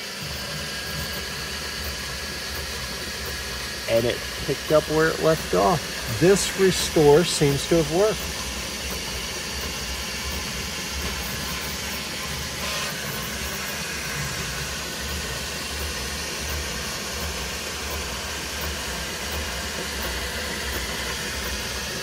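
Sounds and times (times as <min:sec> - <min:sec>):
three-d printer whirring: 0:00.0 - 0:22.0.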